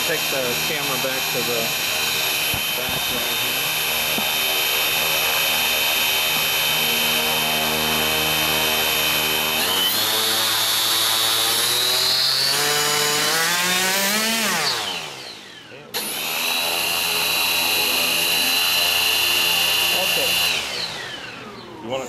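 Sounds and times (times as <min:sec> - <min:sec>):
electric motor whine: 0:00.0 - 0:22.0
propeller hum: 0:00.0 - 0:22.0.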